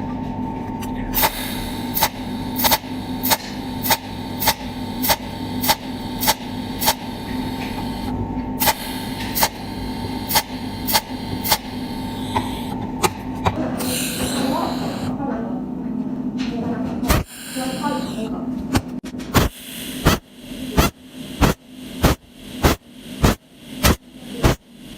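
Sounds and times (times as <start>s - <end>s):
electrical hum: 0.0s - 24.9s
welding machine snapping pulses: 1.2s - 15.1s, 17.1s - 24.9s.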